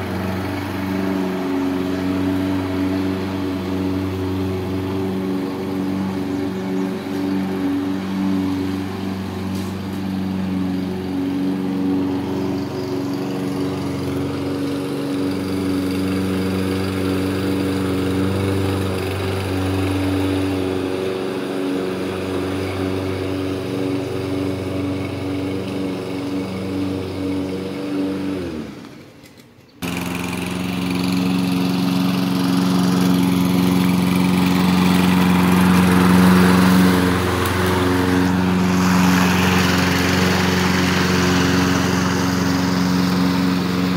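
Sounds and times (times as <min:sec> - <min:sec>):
lawn mower engine running: 0:00.0 - 0:43.9.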